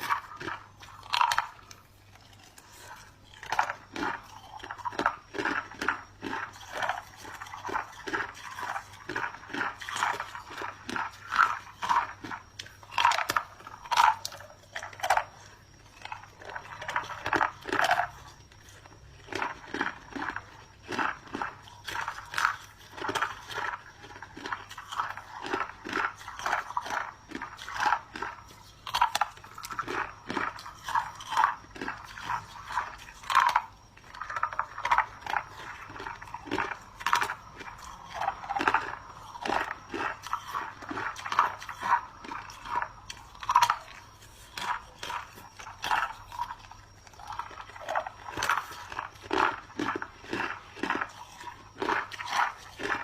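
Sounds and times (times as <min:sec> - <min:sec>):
person chewing ice: 0:00.0 - 0:53.0.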